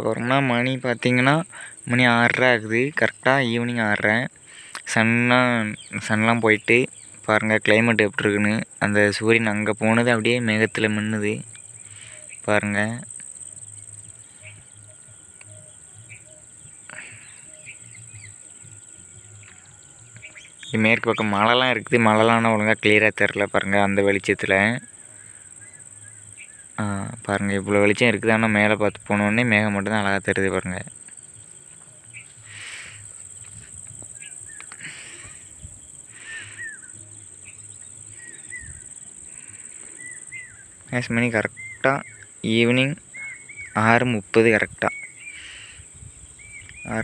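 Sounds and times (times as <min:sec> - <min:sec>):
bird chirps: 0:00.0 - 0:47.0
crickets and insects droning: 0:00.0 - 0:47.0.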